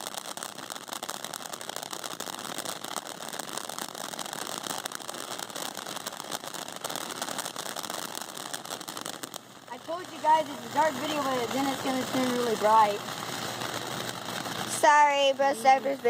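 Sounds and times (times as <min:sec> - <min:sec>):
firework crackling: 0:00.0 - 0:16.0.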